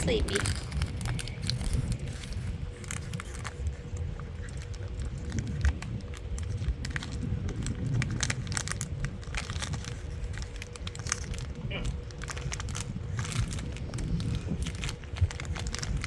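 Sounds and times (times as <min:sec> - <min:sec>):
dogs chewing crinkly toys: 0:00.0 - 0:16.0
low rumble: 0:00.0 - 0:16.0.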